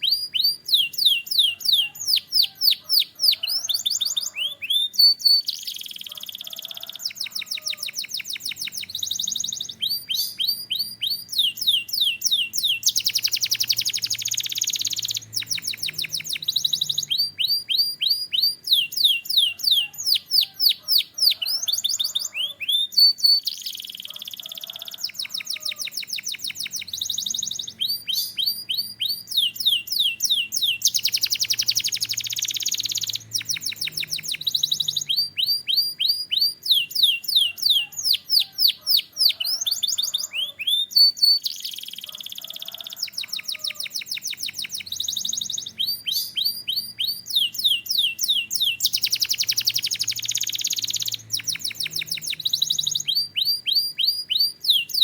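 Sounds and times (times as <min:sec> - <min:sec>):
canary singing fast trills: 0:00.0 - 0:55.0.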